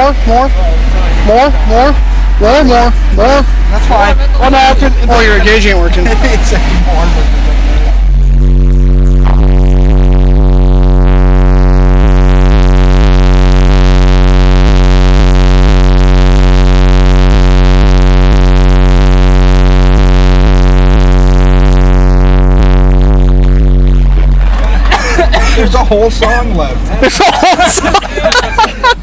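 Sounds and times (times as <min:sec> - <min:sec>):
regular ticking: 0:00.0 - 0:28.8
distorted subwoofer bass drone: 0:00.0 - 0:29.0.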